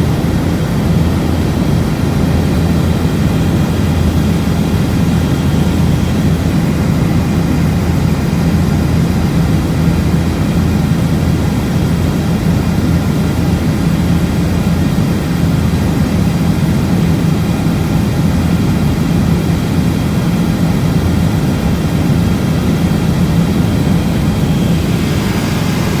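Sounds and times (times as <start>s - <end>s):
helicopter engine and rotor drone: 0.0s - 26.0s.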